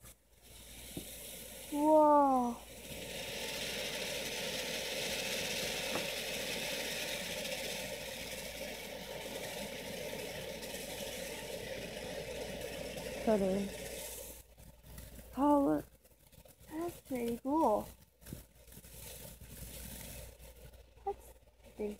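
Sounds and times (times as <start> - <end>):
firework fountain hissing: 0.0 - 21.9.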